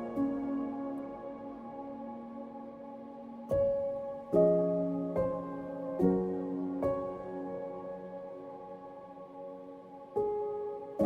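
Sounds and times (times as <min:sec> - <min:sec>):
gentle new-age music chords: 0:00.0 - 0:11.0.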